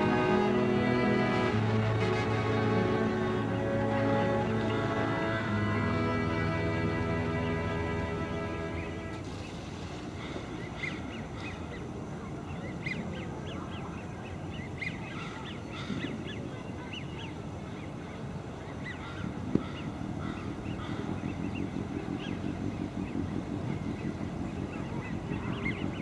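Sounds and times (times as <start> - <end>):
birds calling: 0.0 - 26.0
low outdoor rumble: 0.0 - 26.0.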